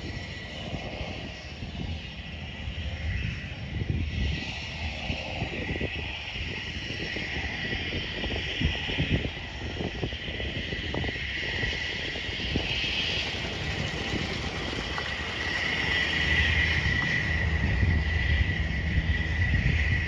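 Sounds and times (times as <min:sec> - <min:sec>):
distant light aircraft engine: 0:00.0 - 0:20.0
high-pitched whine: 0:00.0 - 0:20.0
wind gusting on microphone: 0:00.0 - 0:20.0.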